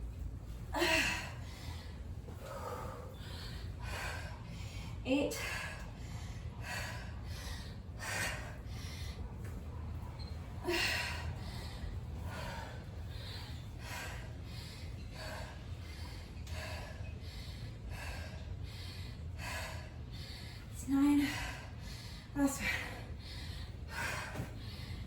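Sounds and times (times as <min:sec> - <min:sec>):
steady low rumble: 0:00.0 - 0:25.0
woman breathing hard: 0:00.5 - 0:25.0.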